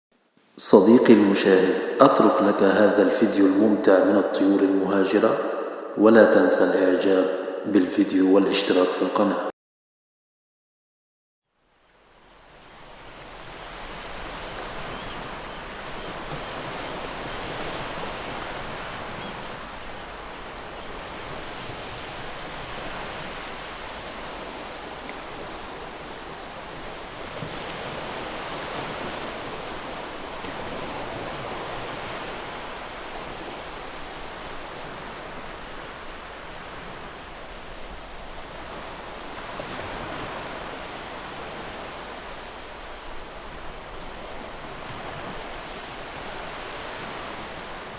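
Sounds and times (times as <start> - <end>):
sea waves washing onto shore: 0.5 - 9.4, 11.9 - 47.9.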